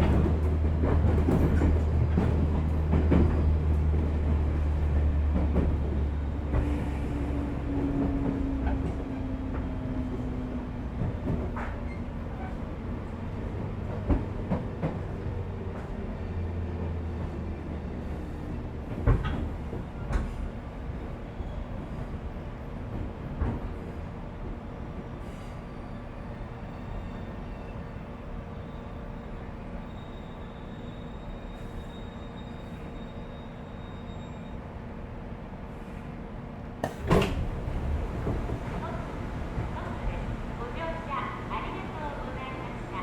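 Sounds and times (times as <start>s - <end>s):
train motors and wheels rumbling: 0.0s - 43.0s.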